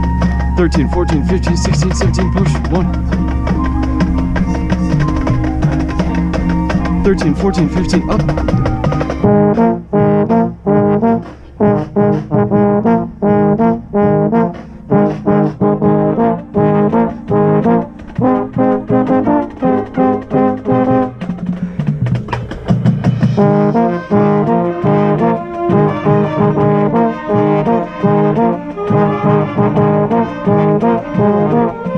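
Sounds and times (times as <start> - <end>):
marching band brass playing: 0.0 - 31.9
marching baritone: 0.0 - 31.9.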